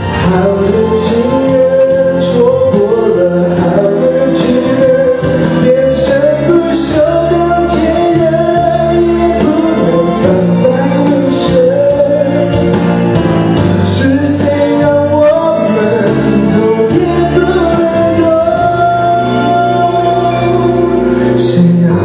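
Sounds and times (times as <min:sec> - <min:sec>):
instrumental accompaniment: 0:00.0 - 0:22.0
man singing a pop ballad: 0:00.0 - 0:22.0.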